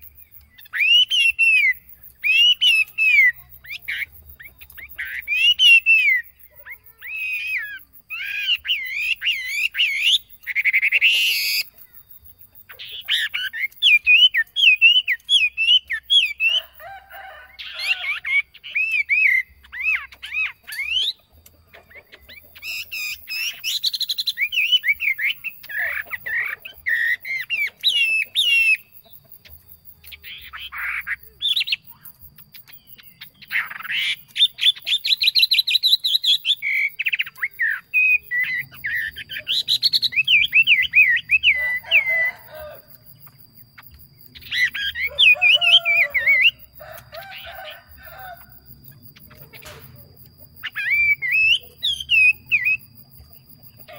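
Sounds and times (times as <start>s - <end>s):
songbird warbling: 0.0s - 53.9s.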